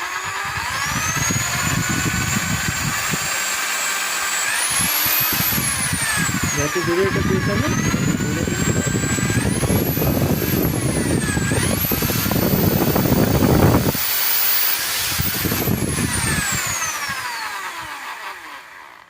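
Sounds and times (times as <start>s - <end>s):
impact drill motor whine: 0.0s - 19.0s.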